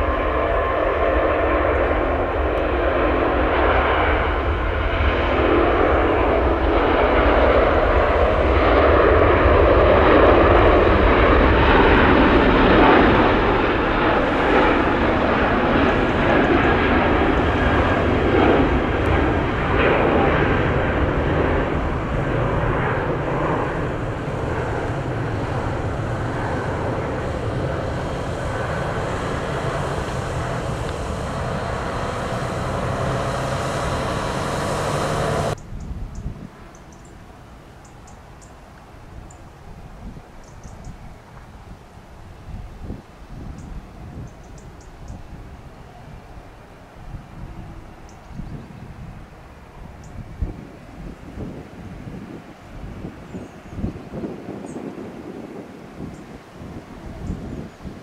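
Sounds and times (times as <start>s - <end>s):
jet airliner flying past: 0.0s - 58.0s.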